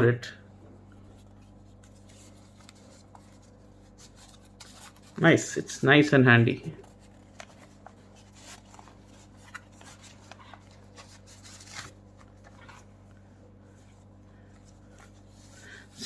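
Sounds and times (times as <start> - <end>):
low electrical hum: 0.0 - 16.0
soft handling clicks and rustles: 0.8 - 5.3, 6.8 - 15.5.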